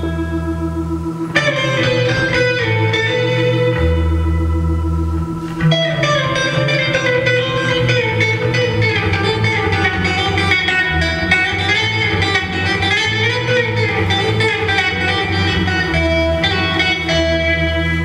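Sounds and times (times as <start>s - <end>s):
low drone: 0.0s - 18.0s
plucked dance melody: 0.0s - 18.0s.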